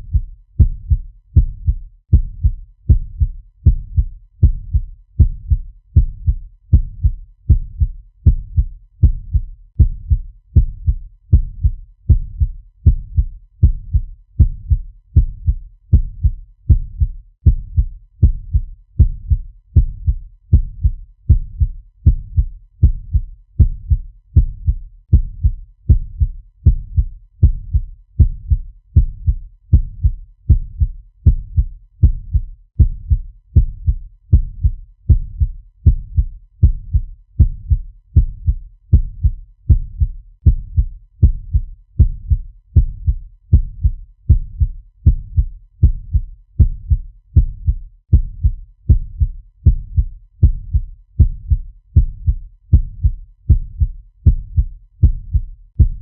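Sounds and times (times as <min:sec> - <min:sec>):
heartbeat thuds: 0:00.0 - 0:56.0.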